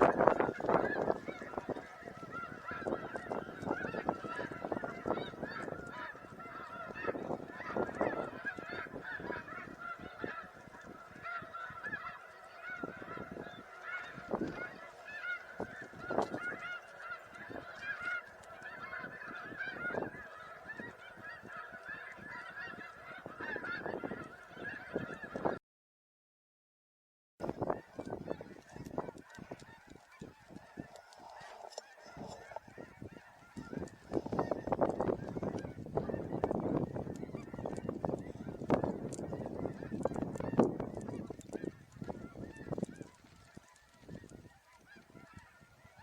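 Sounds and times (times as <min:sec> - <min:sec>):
geese honking: 0:00.0 - 0:25.6, 0:27.4 - 0:46.0.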